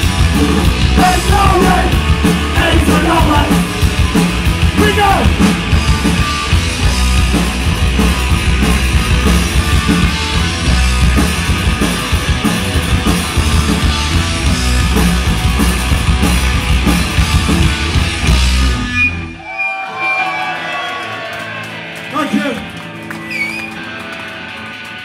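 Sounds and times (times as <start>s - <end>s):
punk band playing live: 0.0s - 25.0s.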